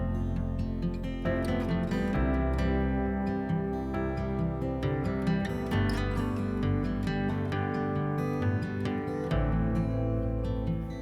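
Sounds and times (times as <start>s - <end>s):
acoustic guitar picking and strumming: 0.0s - 11.0s.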